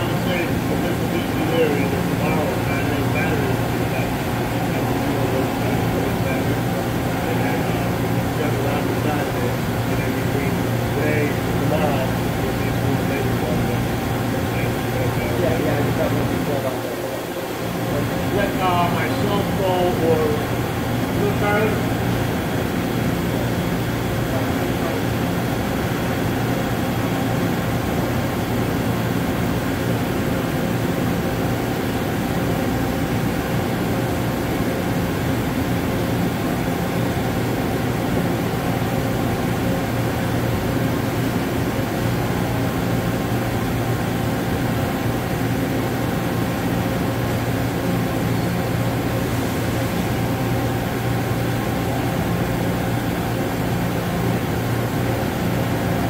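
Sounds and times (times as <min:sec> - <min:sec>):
machine humming with hiss: 0:00.0 - 0:56.0.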